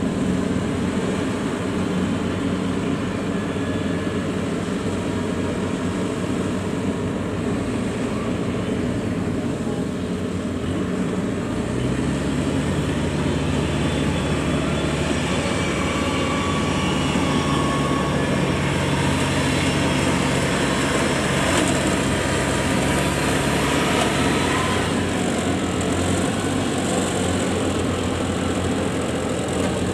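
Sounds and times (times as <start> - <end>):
combine harvester engines running: 0.0 - 29.9
deeper engine hum: 0.0 - 29.9.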